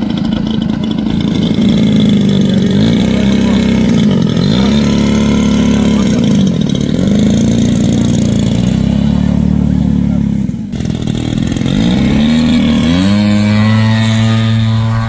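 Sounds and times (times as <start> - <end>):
model aircraft engine running: 0.0 - 15.0.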